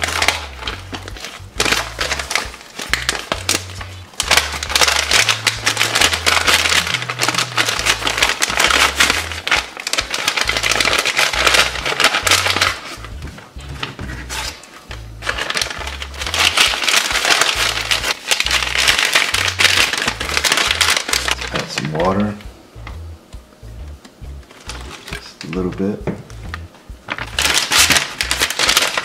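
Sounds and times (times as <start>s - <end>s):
plastic bag crinkling and tearing: 0.0s - 13.1s, 13.7s - 22.4s, 24.5s - 25.8s, 27.1s - 29.0s
background music with bass line: 0.0s - 29.0s.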